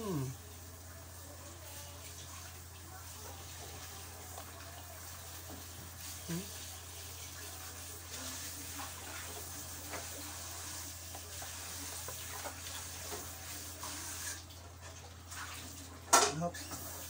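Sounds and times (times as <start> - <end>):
tap water running into sink: 1.9 - 17.0.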